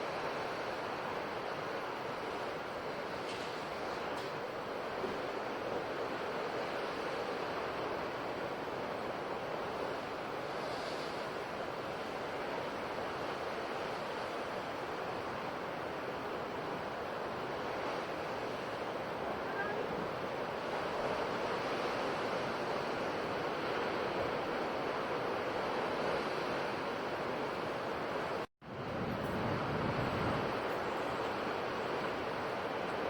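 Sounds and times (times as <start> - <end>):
sea waves washing on shore: 0.0 - 33.0.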